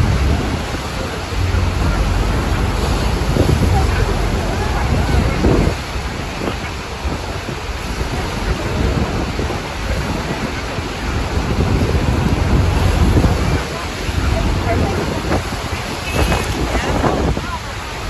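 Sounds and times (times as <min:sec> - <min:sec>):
waterfall roaring: 0:00.0 - 0:18.0
wind buffeting microphone: 0:00.0 - 0:18.0.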